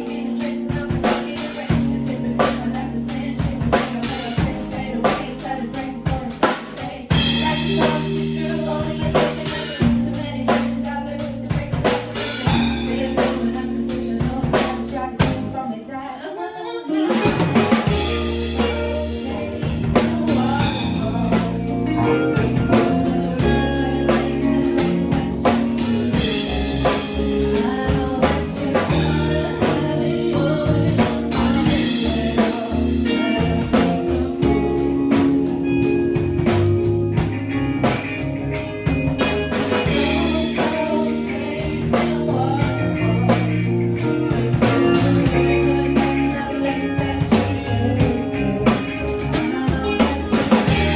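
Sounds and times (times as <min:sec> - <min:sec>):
song with singing and band: 0:00.0 - 0:50.9.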